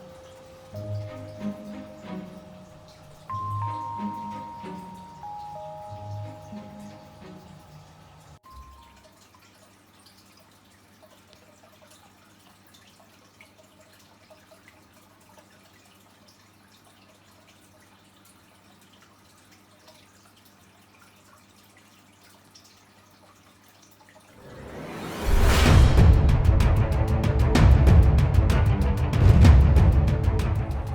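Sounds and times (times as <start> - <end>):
water dripping: 0.0 - 30.9.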